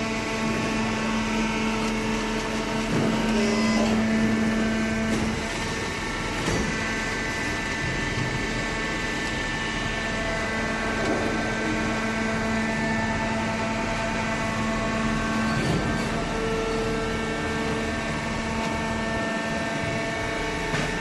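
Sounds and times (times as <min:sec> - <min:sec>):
pump motor humming: 0:00.0 - 0:21.0.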